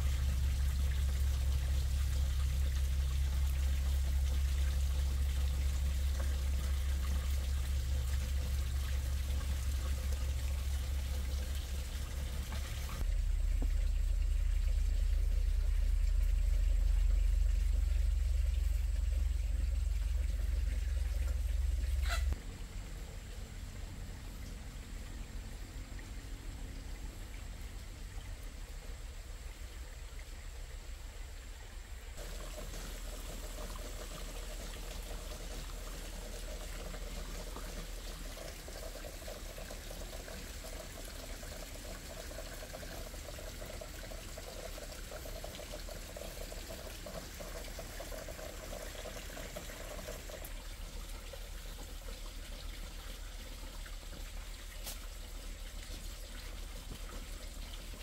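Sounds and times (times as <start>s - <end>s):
water running and trickling: 0.0s - 58.0s.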